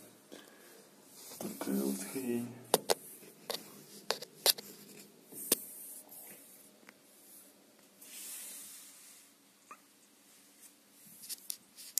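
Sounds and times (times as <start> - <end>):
soft rustle: 0.6 - 11.9.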